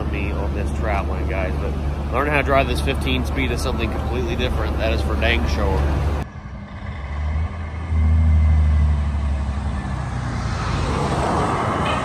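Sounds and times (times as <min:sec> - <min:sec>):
diesel truck engine rumble: 0:00.0 - 0:12.0
tyre and road noise: 0:00.0 - 0:12.0.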